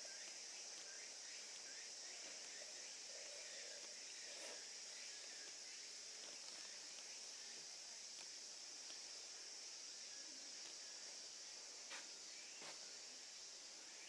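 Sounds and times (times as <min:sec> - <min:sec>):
insect chorus trilling: 0:00.0 - 0:14.0.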